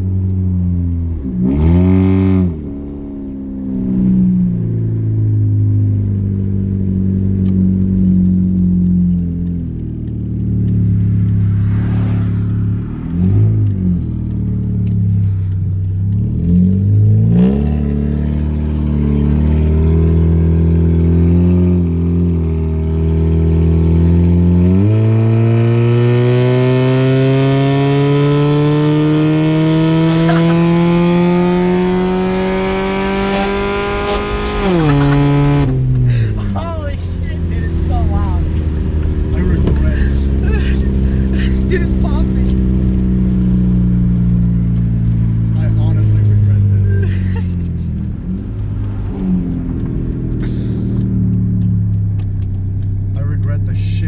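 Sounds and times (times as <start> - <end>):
loud car engine accelerating: 0.0 - 54.0
throttle blips: 0.2 - 21.0, 28.0 - 54.0.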